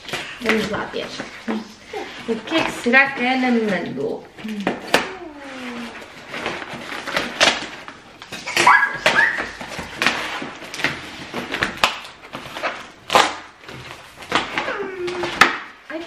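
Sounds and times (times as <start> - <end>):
cardboard and paper tearing: 0.0 - 16.0.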